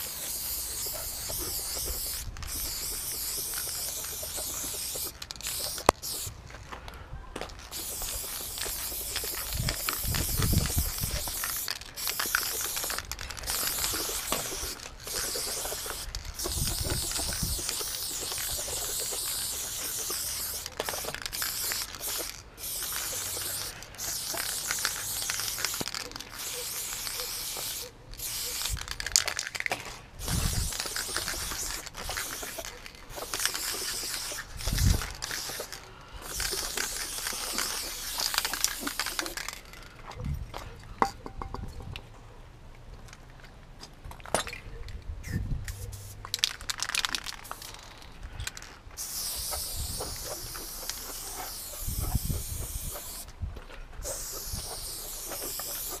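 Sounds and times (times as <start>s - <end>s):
spray paint can hissing: 0.0s - 6.4s, 7.6s - 39.8s, 45.2s - 53.3s, 54.0s - 56.0s.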